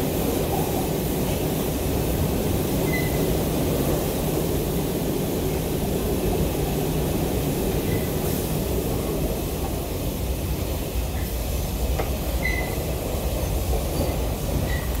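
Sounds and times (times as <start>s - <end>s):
subway car rumble and hiss: 0.0s - 15.0s.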